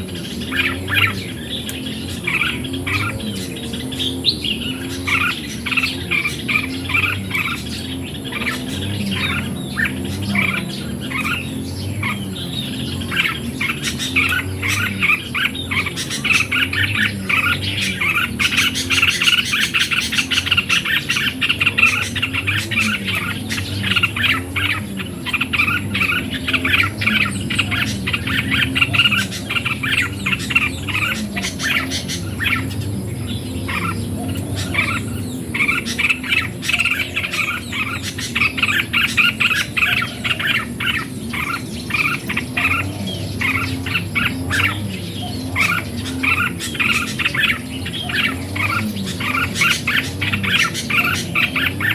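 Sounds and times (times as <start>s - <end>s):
birds chirping and calling: 0.0s - 51.9s.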